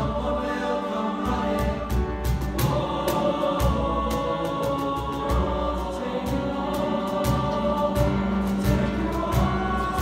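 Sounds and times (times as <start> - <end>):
male choir singing: 0.0 - 10.0
piano: 0.0 - 10.0.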